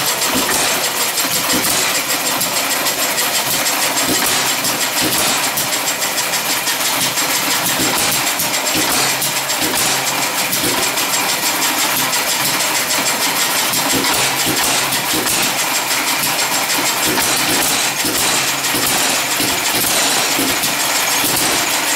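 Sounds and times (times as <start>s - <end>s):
stationary gas engines running: 0.0s - 21.9s.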